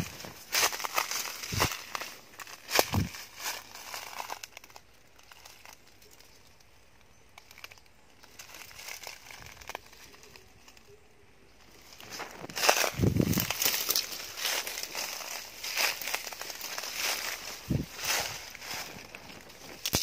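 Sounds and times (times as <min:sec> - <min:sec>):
dry leaves and twigs crackling: 0:00.0 - 0:20.0.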